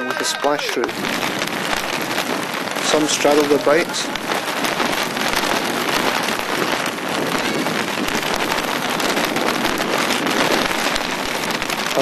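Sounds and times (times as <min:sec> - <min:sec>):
bike wheels splashing through water: 0:00.5 - 0:12.0.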